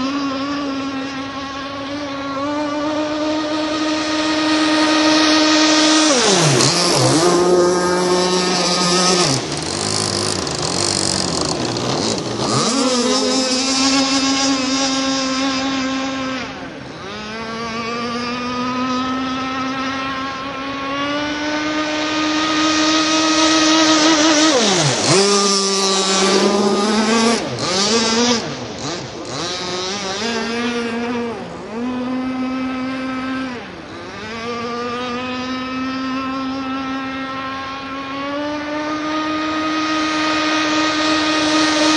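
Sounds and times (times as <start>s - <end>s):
model boat motor running: 0.0s - 41.9s.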